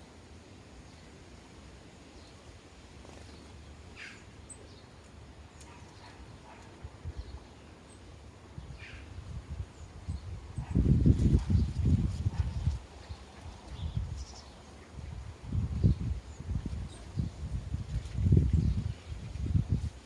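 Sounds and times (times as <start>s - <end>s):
sparrows chirping: 0.6s - 20.0s.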